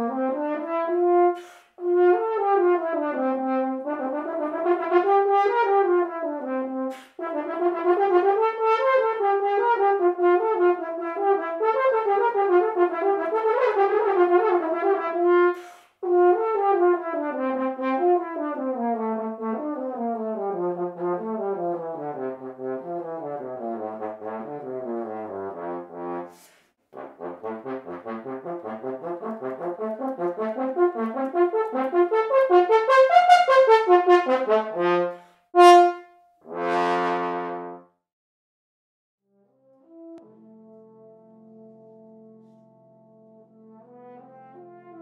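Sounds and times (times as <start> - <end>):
french horn playing fast runs: 0.1 - 37.8.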